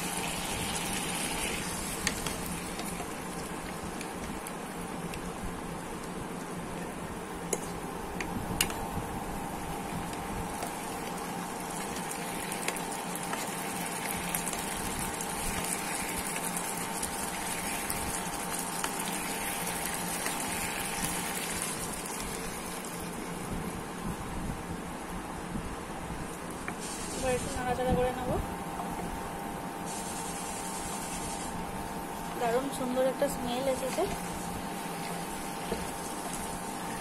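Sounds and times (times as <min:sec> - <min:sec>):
curry sizzling and bubbling: 0:00.0 - 0:24.7, 0:26.3 - 0:37.0
faint hum: 0:00.0 - 0:37.0.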